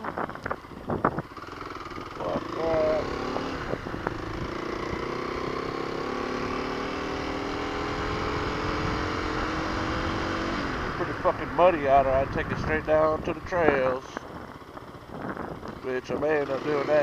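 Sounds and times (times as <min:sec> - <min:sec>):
motorcycle engine pulling: 0:00.0 - 0:17.0
wind and road rumble: 0:00.0 - 0:17.0.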